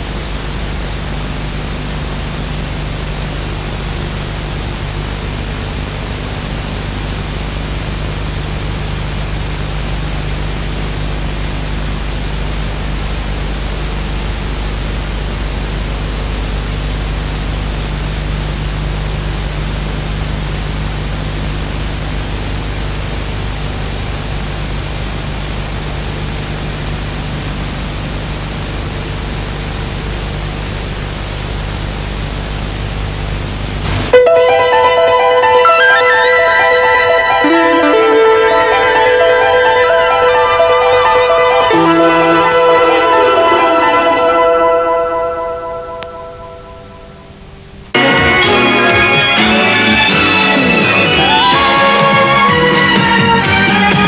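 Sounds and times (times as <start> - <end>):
tape hiss: 0.0 - 54.0.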